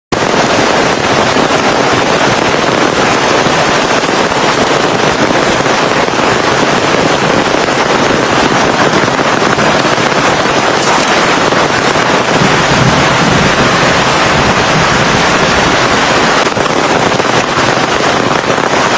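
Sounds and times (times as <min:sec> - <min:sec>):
heavy rain pouring: 0:00.1 - 0:18.9.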